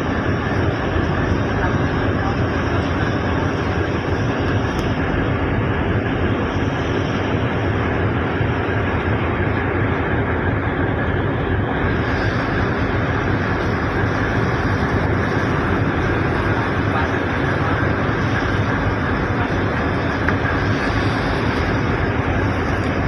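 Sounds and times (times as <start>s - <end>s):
boat engine drone: 0.0s - 23.0s
rushing water: 0.0s - 23.0s
wind: 0.0s - 23.0s.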